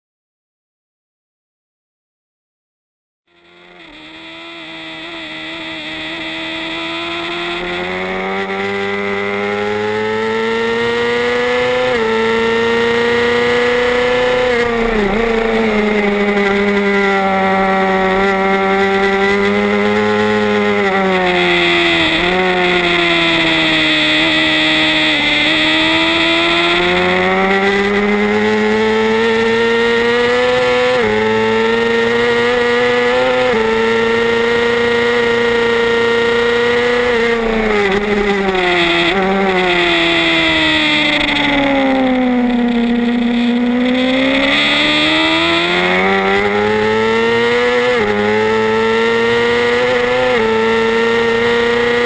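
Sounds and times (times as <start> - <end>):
motorcycle engine at high revs: 3.3 - 52.0.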